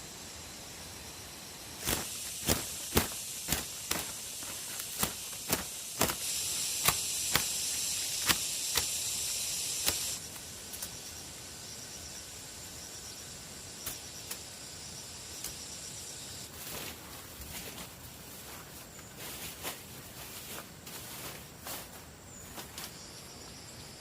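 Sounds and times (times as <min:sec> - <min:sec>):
high hiss: 0:00.0 - 0:24.0
insects chirping: 0:00.0 - 0:24.0.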